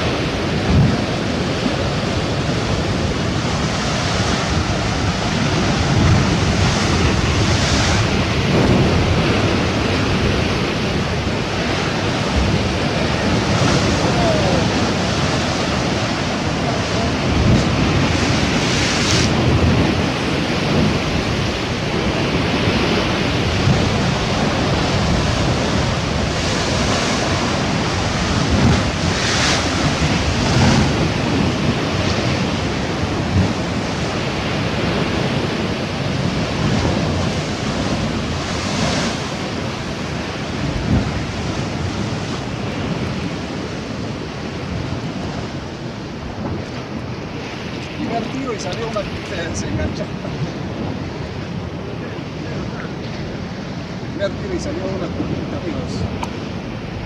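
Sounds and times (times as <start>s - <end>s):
sea waves breaking: 0.0s - 57.0s
wind buffeting microphone: 0.0s - 57.0s.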